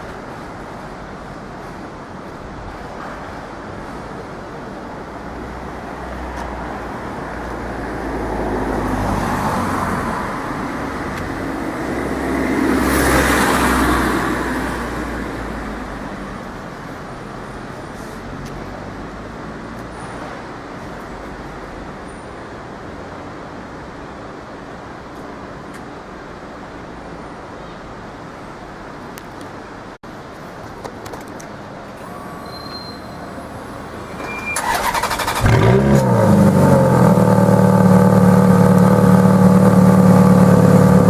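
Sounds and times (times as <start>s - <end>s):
road noise: 0.0s - 41.0s
vehicles passing by: 0.0s - 41.0s.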